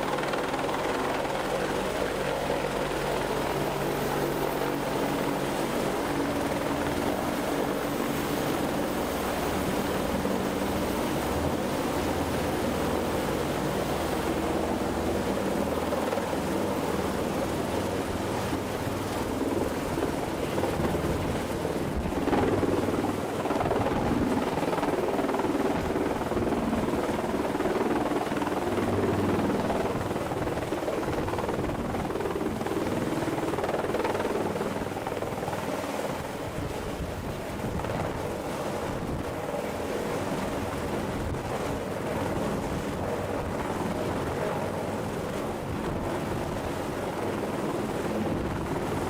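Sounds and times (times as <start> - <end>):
helicopter rotors and engines: 0.0 - 49.0.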